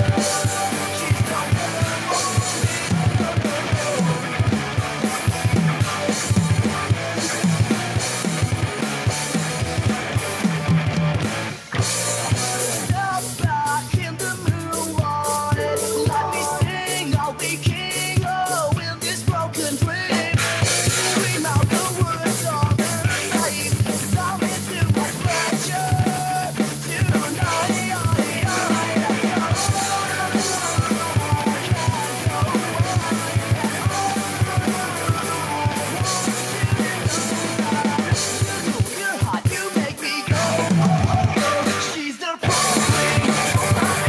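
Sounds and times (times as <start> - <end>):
electronic drum beat: 0.0 - 44.0
rock song with vocals: 0.0 - 44.0.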